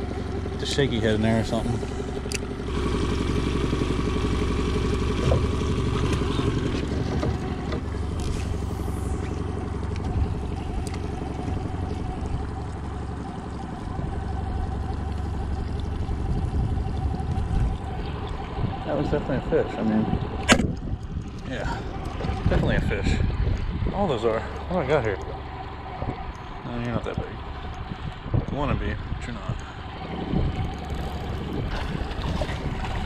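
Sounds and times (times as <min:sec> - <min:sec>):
boat motor running: 0:00.0 - 0:33.0.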